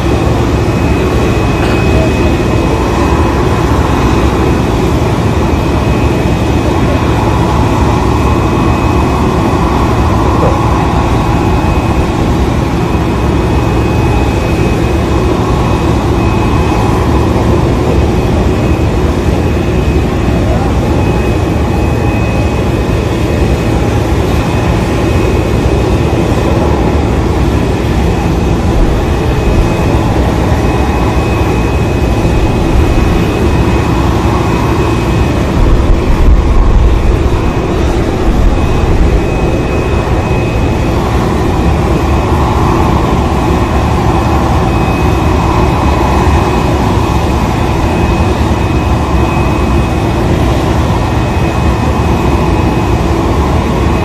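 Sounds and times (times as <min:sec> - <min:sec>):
jet turbine rumble and whine: 0:00.0 - 0:54.0.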